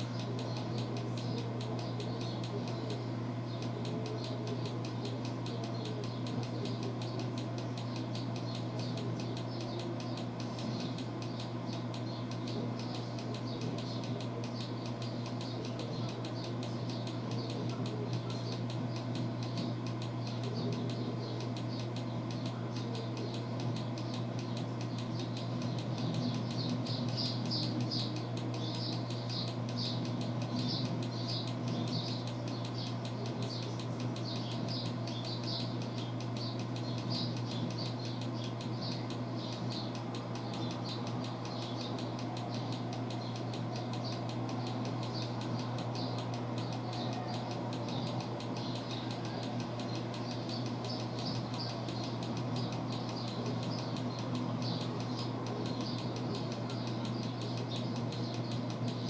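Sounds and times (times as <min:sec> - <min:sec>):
faint high chirping: 0:00.0 - 0:59.0
low electrical hum: 0:00.0 - 0:59.0.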